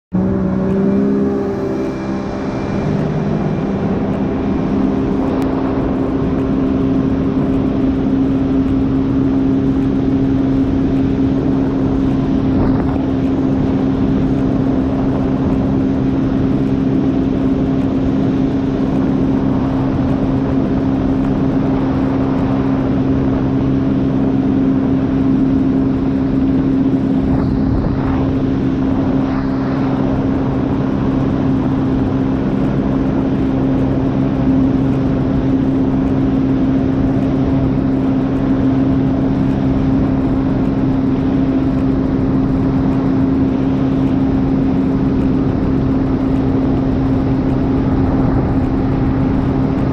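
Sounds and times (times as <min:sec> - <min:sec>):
jet ski engine running: 0:00.1 - 0:49.9.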